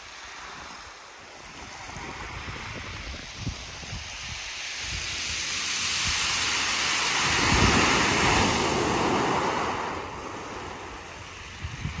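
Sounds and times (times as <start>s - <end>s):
waves on pebble beach: 0.0s - 12.0s
wind on microphone: 0.0s - 12.0s.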